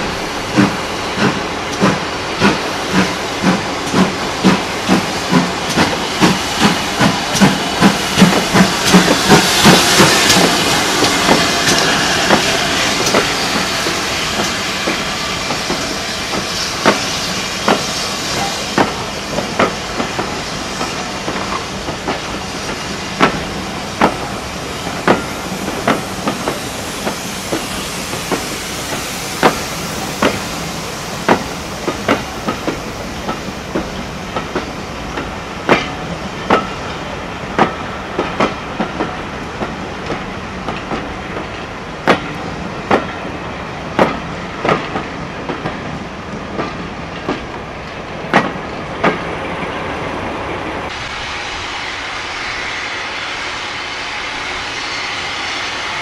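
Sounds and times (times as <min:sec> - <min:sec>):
steam hissing: 0:00.0 - 0:45.9, 0:50.8 - 0:56.0
steam locomotive exhaust beats: 0:00.0 - 0:49.3, 0:50.9 - 0:56.0
train wheels clicking on rail joints: 0:00.0 - 0:50.1.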